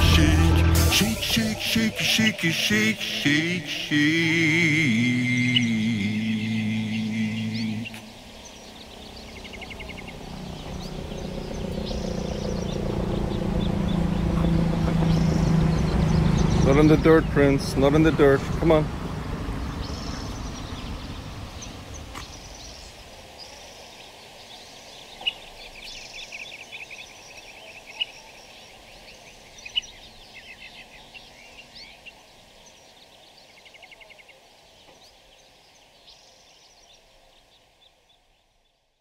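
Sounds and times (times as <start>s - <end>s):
songbirds chirping and trilling: 0.0s - 39.0s.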